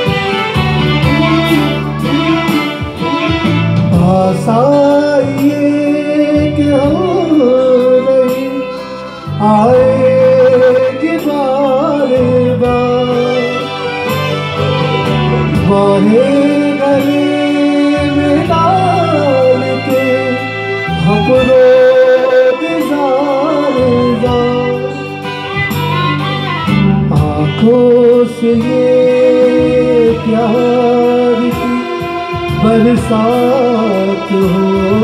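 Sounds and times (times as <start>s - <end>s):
bass line pulsing: 0.0s - 5.8s, 8.9s - 35.0s
live band playing: 0.0s - 35.0s
violin melody: 0.0s - 35.0s.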